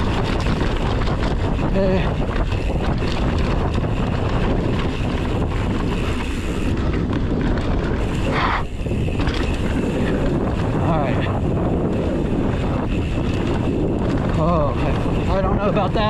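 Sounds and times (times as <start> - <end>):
bike rattling over bumps: 0.0 - 16.0
tyres rolling on dirt: 0.0 - 16.0
wind on microphone: 0.0 - 16.0.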